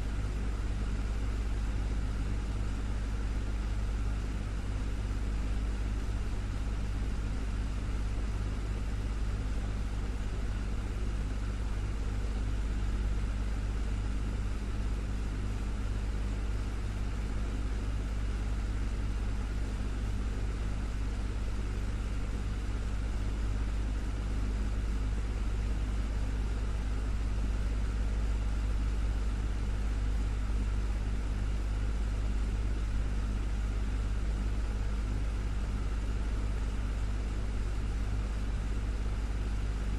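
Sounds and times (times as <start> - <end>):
desktop fan whirring: 0.0 - 39.9.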